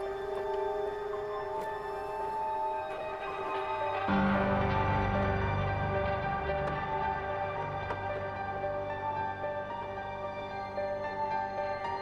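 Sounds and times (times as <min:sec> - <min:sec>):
soft slow ambient music: 0:00.0 - 0:12.0.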